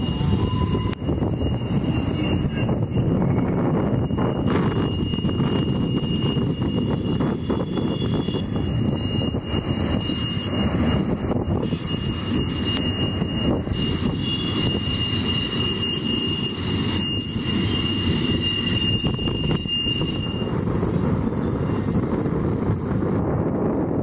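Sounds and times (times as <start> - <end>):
high-pitched wheel squeal: 0.0 - 23.2
train wheels rumbling on rails: 0.0 - 24.0.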